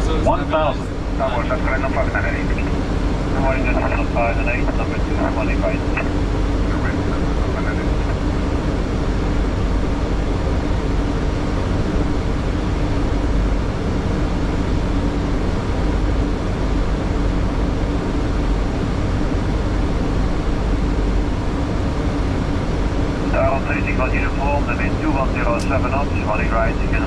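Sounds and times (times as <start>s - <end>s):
airflow rush and engine drone: 0.0s - 27.0s
low steady hum: 0.0s - 27.0s.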